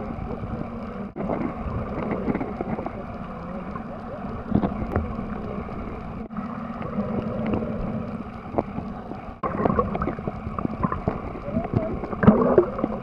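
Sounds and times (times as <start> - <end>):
sea water sloshing and gurgling: 0.0 - 13.0.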